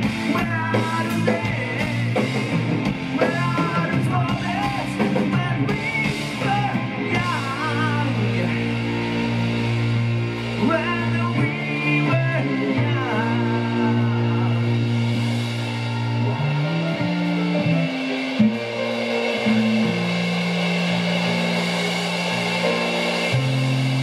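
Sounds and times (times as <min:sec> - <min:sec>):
person singing: 0:00.0 - 0:02.6, 0:03.2 - 0:09.5, 0:10.5 - 0:23.8
drum kit: 0:00.0 - 0:24.0
electric bass guitar: 0:00.0 - 0:24.0
electric guitar: 0:00.0 - 0:24.0.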